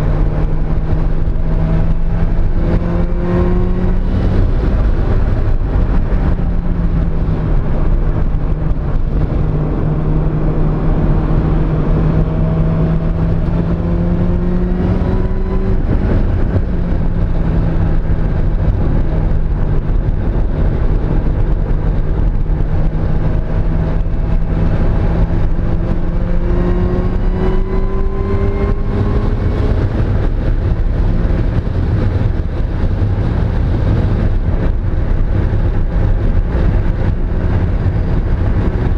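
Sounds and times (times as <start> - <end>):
road and wind rumble: 0.0 - 38.9.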